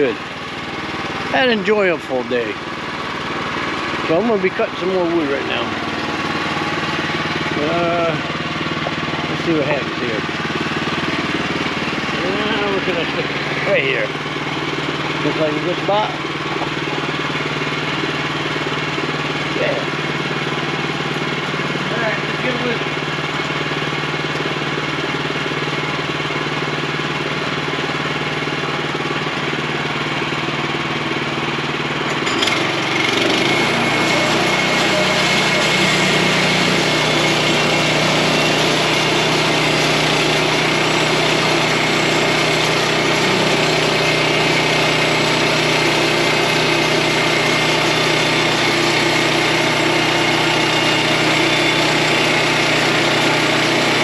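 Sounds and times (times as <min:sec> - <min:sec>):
gasoline engine idling and revving: 0:00.0 - 0:54.0.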